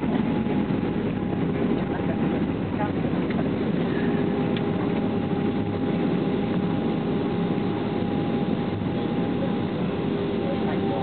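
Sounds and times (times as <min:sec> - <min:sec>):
airplane cabin roar: 0:00.0 - 0:11.0
steady whining tones: 0:00.0 - 0:11.0.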